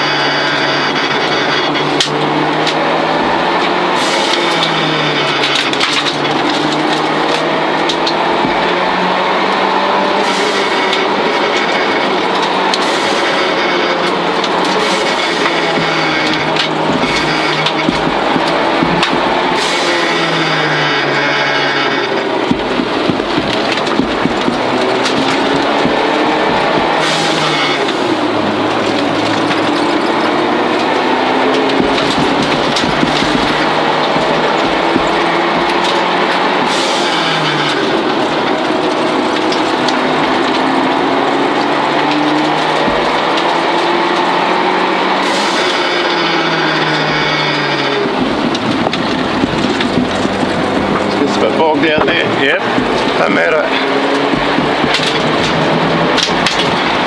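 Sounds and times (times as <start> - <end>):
car engine revving hard: 0.0 - 57.0
tyre and road noise: 0.0 - 57.0.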